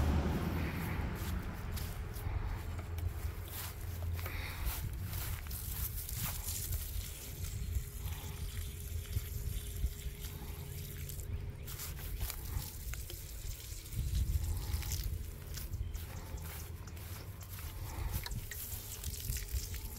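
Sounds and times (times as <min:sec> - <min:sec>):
low rumble: 0:00.0 - 0:19.9
water trickling onto straw: 0:00.6 - 0:19.9.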